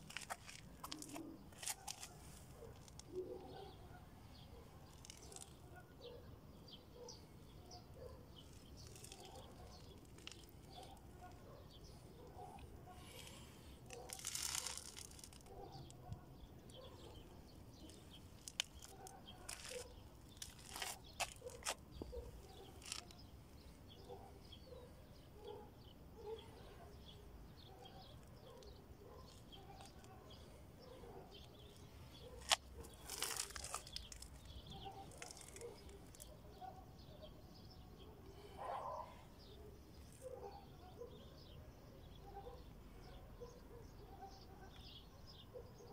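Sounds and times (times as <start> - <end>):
faint bird chirping: 0.1 - 45.9.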